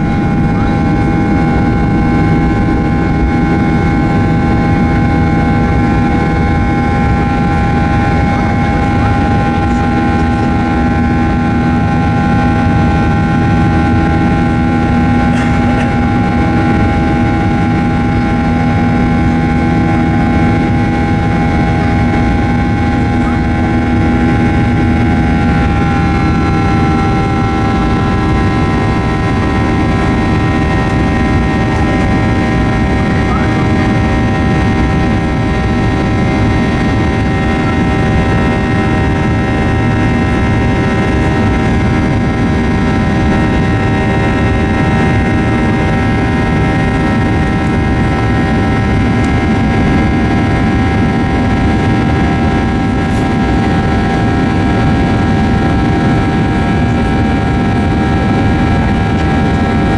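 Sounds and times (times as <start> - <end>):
jet engine roar with buzzsaw drone: 0.0 - 59.9.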